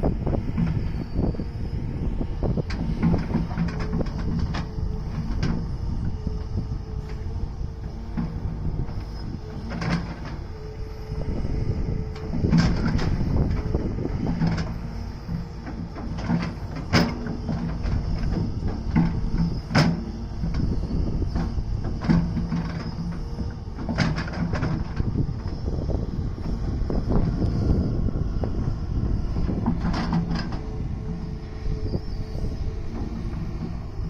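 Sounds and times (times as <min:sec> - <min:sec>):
excavator engine hum: 0:00.0 - 0:34.0.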